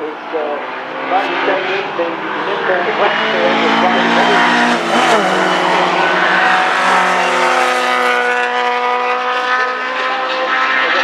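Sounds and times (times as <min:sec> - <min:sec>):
racing car engine steady note: 0:00.0 - 0:11.0
racing car engine passing: 0:00.1 - 0:11.0.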